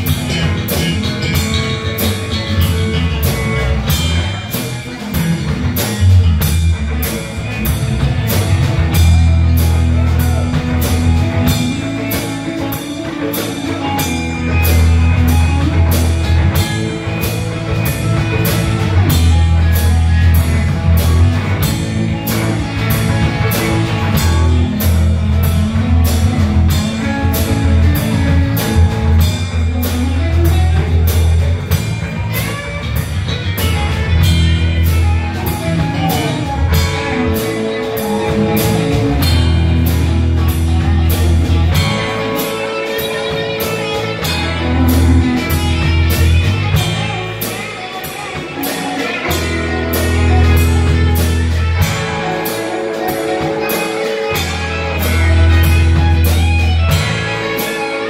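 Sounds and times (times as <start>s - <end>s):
bass guitar: 0.0s - 58.0s
drum kit steady beat: 0.0s - 58.0s
electric guitars: 0.0s - 58.0s.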